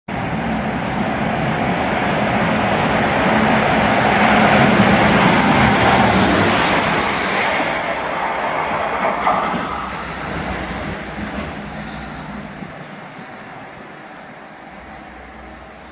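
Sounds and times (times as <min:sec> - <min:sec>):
train rolling by: 0:00.1 - 0:15.9.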